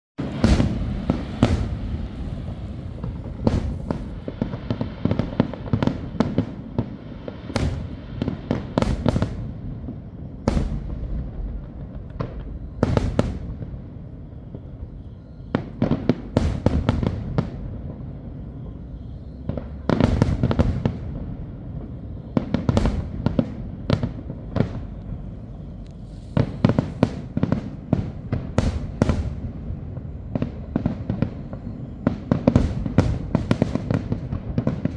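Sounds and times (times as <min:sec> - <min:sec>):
continuous low rumble: 0:00.2 - 0:34.9
fireworks bangs: 0:00.2 - 0:34.9.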